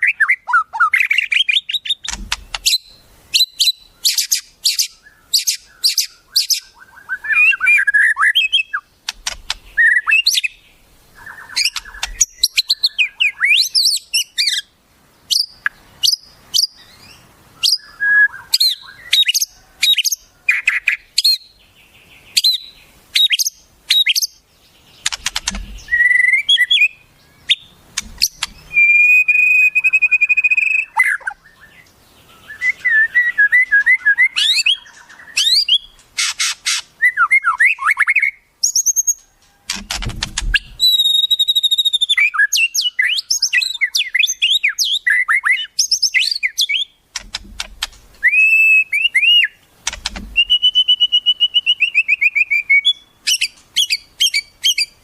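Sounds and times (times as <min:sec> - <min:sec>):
wild birds singing and calling: 0:00.0 - 0:55.0.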